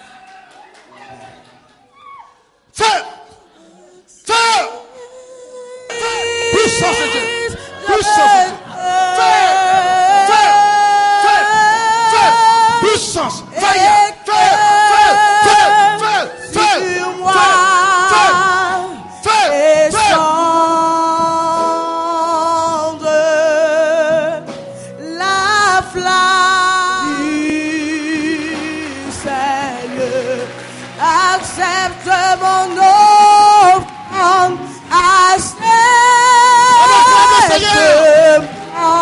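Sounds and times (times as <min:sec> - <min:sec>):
worship singing with music: 0:02.8 - 0:39.0.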